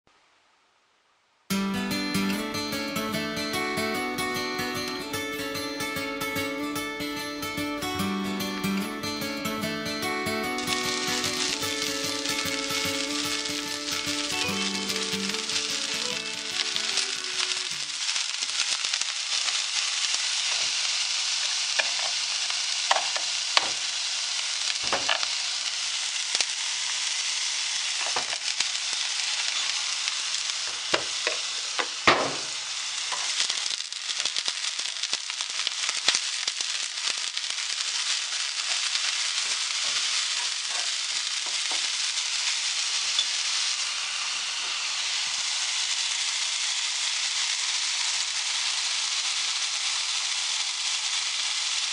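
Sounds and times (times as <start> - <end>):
bean sprouts sizzling in oil: 1.5 - 51.9.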